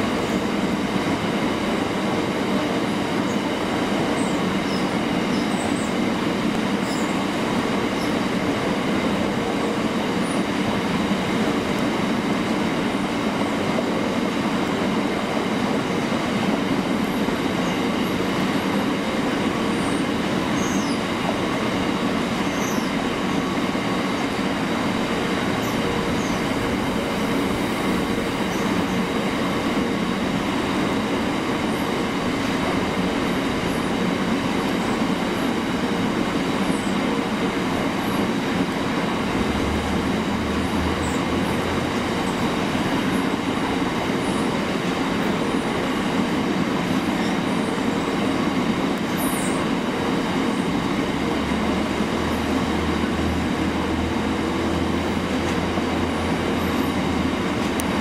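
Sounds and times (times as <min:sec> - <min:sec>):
freight wagons rumbling on rails: 0:00.0 - 0:58.0.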